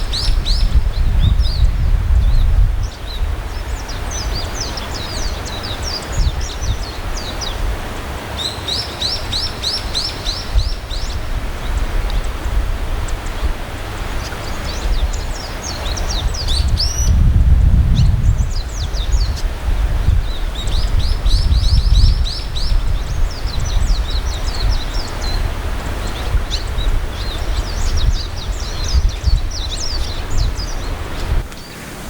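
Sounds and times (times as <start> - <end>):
swallows twittering: 0.0 - 7.7, 8.4 - 17.3, 17.9 - 32.0.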